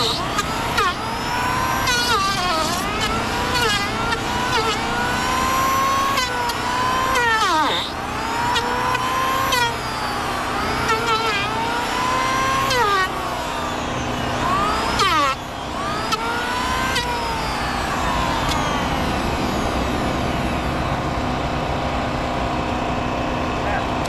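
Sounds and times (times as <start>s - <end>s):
engine running under changing load: 0.0s - 24.0s.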